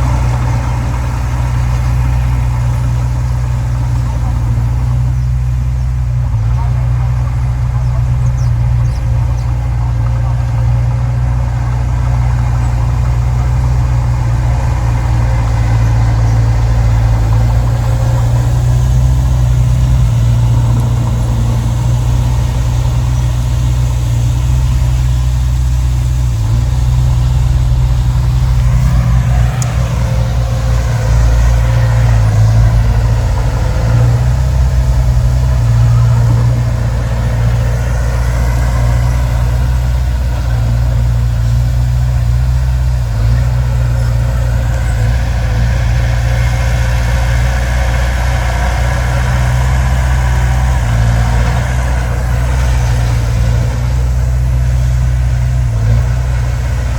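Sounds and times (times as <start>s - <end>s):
heavy machinery engine rumbling: 0.0s - 56.9s.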